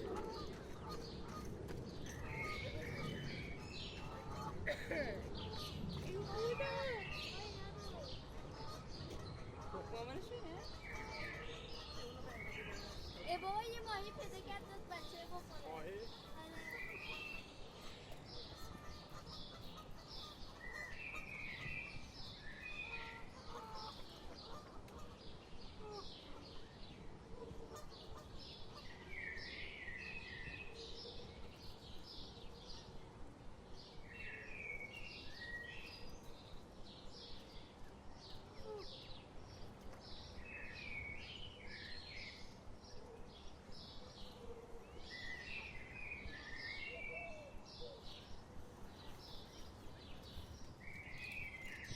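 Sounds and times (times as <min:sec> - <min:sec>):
small birds singing: 0:00.0 - 0:51.9.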